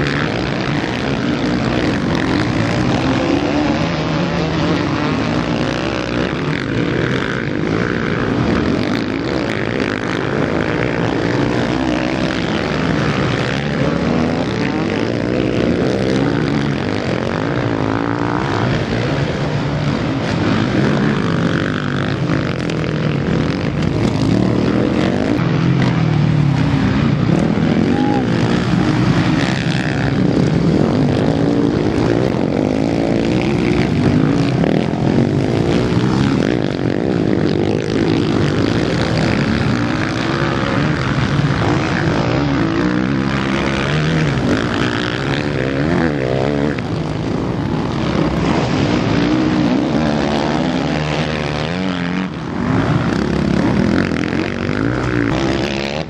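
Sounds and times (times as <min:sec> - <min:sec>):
motocross engines revving: 0:00.0 - 0:56.0.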